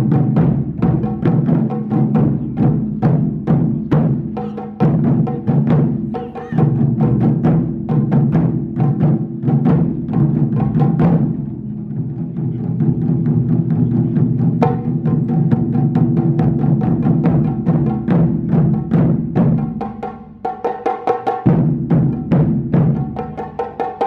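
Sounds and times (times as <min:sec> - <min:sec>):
drums struck rapidly: 0:00.0 - 0:24.0.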